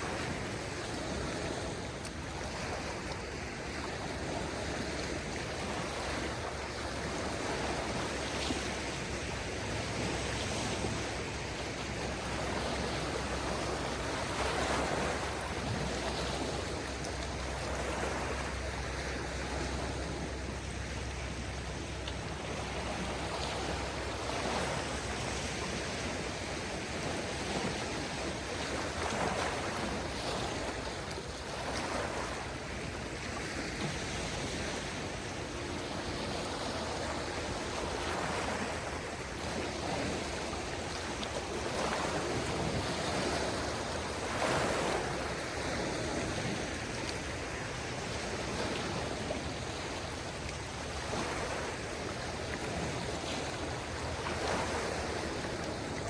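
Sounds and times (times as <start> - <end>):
small waves washing onto shore: 0.0 - 56.0.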